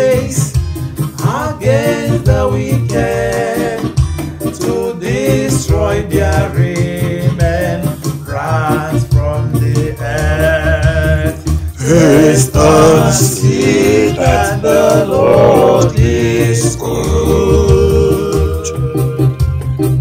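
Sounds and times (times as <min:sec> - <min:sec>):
man singing slow melody: 0:00.0 - 0:00.6, 0:01.2 - 0:19.4
keyboard piano chords and bass: 0:00.0 - 0:20.0.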